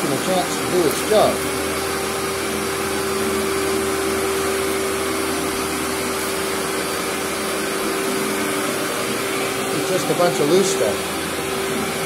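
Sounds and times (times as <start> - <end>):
vacuum cleaner on carpet: 0.0 - 12.0.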